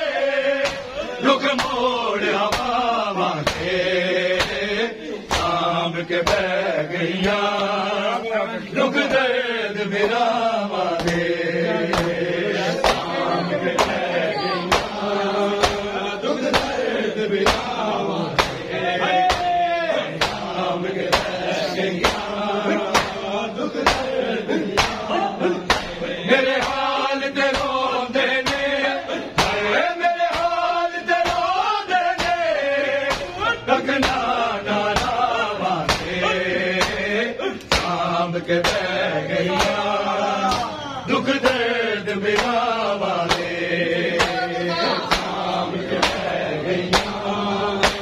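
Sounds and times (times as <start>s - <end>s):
men chanting a lament: 0.0s - 48.0s
chest beating slaps: 0.6s - 6.6s, 10.9s - 11.3s, 11.9s - 38.0s, 38.6s - 48.0s.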